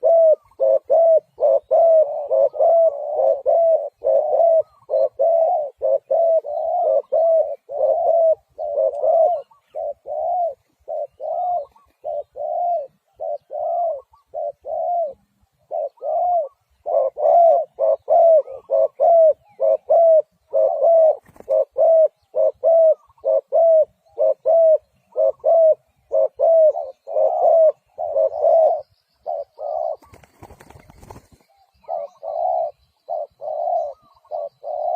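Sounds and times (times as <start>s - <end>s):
dove cooing: 0.0s - 34.9s.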